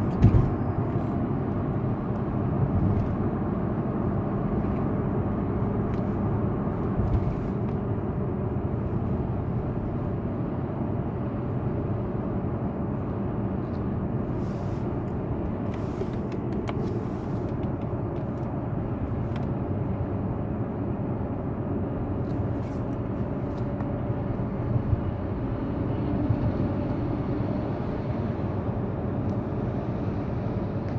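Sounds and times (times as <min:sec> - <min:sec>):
car running rumble and hiss: 0:00.0 - 0:30.9.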